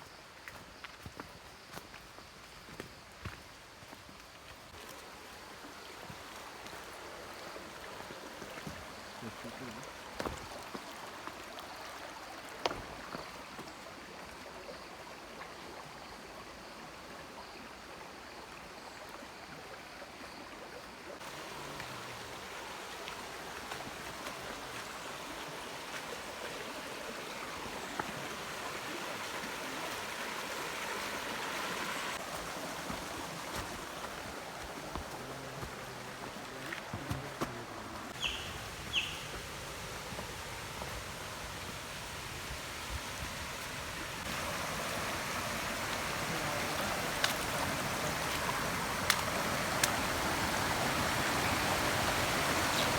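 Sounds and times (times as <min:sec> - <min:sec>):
faint high insect tone: 0:00.0 - 0:42.6
stream water flowing: 0:00.0 - 0:52.9.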